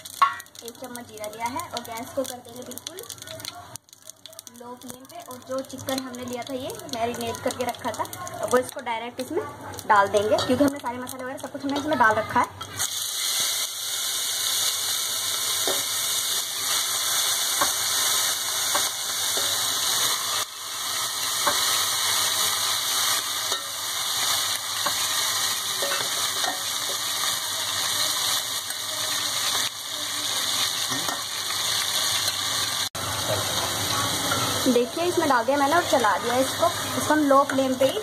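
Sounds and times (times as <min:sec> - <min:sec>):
chicken sizzling in oil: 0:00.0 - 0:38.0.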